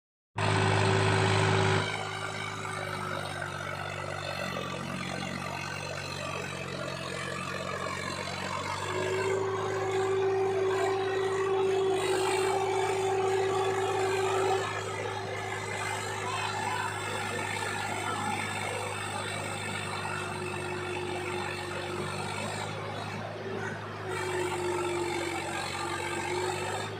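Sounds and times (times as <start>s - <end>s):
tractor diesel engine running: 0.4s - 26.9s.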